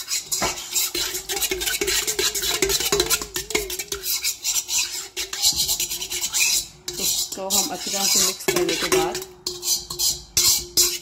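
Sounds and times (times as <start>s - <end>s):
metal spoon scraping steel bowl: 0.0s - 11.0s.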